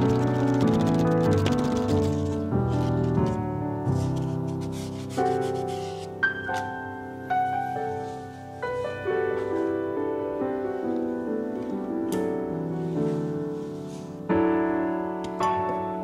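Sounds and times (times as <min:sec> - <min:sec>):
slow solo piano music: 0:00.0 - 0:16.0.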